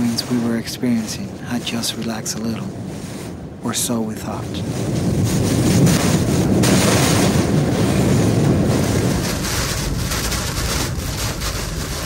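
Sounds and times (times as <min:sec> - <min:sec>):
hurricane wind: 0:00.0 - 0:12.0
torrential rain lashing a truck: 0:00.0 - 0:12.0
wind buffeting the microphone: 0:00.0 - 0:12.0.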